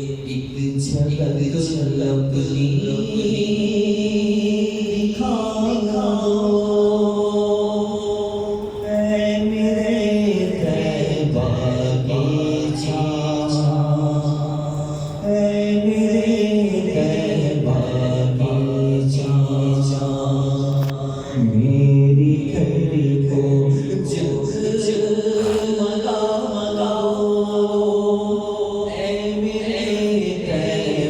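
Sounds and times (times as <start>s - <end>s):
amplified melodic chanting with echo: 0.0s - 31.0s.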